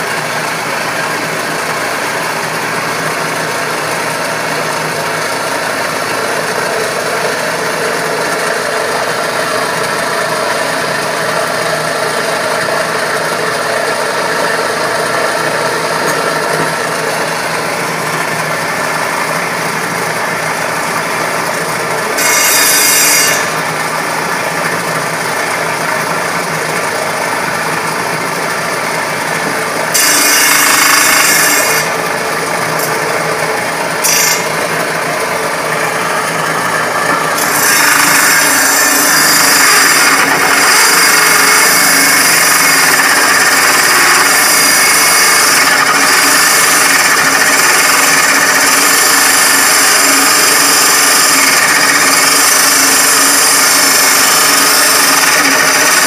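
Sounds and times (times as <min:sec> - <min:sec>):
table saw cutting wood: 0:00.0 - 0:56.0.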